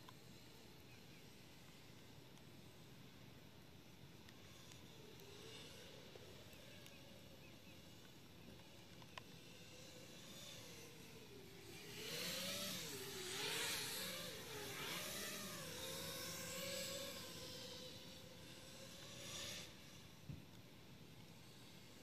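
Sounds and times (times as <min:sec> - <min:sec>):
drone motors whining: 0:03.8 - 0:22.0.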